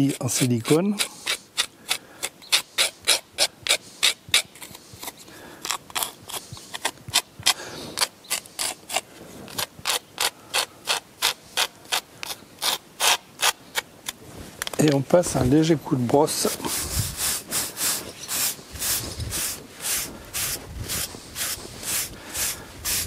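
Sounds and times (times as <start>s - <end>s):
tool scraping grout: 0.0s - 13.6s, 16.4s - 23.0s.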